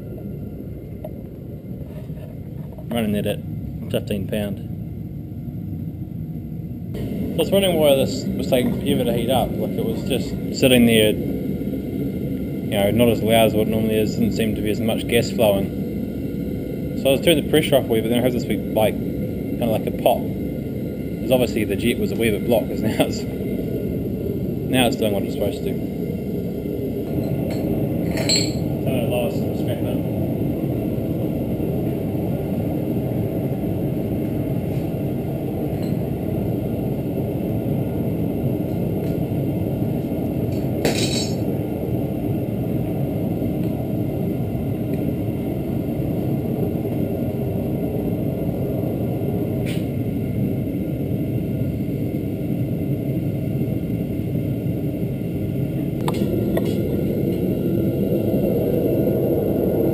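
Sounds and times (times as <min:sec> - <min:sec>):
propane burner rushing: 0:00.0 - 0:59.9.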